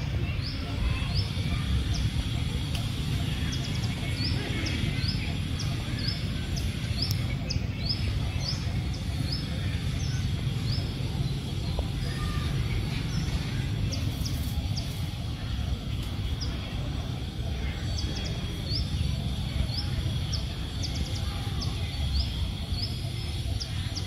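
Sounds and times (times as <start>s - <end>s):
low outdoor rumble: 0.0s - 24.0s
small bird chirping: 0.0s - 24.0s.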